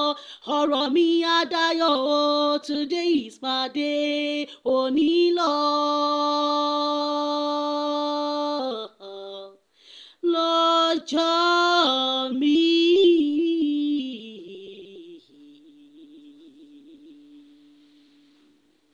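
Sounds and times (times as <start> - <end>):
woman singing unaccompanied: 0.0 - 9.6, 10.2 - 18.6.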